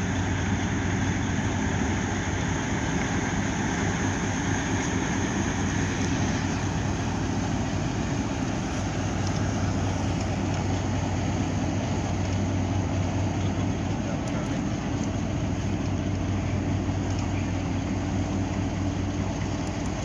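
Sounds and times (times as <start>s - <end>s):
ship engine droning: 0.0s - 20.0s.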